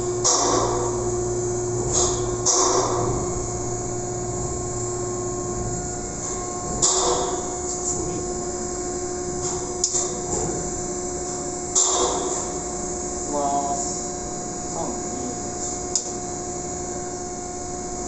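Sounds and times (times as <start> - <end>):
electrical machinery humming: 0.0 - 18.0.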